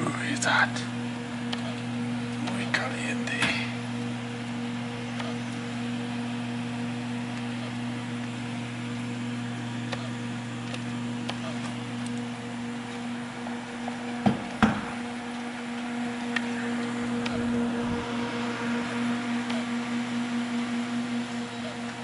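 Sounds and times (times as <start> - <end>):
electrical hum: 0.0 - 22.0
fan air rushing: 0.0 - 22.0.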